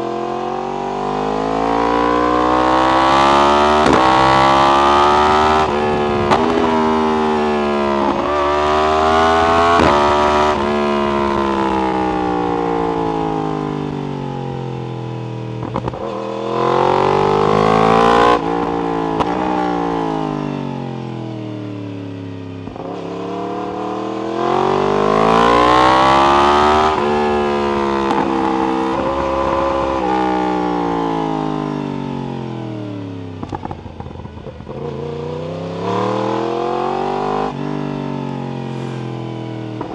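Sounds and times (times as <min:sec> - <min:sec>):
motorcycle engine revving: 0:00.0 - 0:39.9
exhaust crackles: 0:01.3 - 0:20.9, 0:24.3 - 0:39.9.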